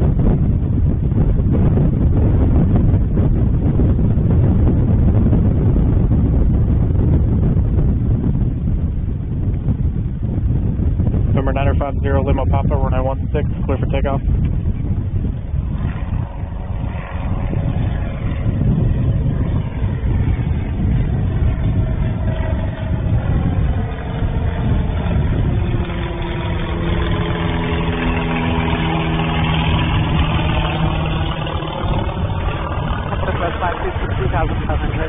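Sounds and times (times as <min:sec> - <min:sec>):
propeller airplane engine droning: 0:00.0 - 0:35.0.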